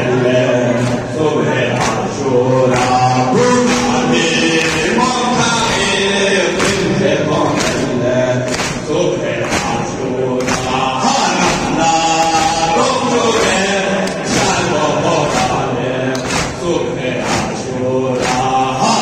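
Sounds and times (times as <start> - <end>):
voices singing long notes: 0.0 - 19.0.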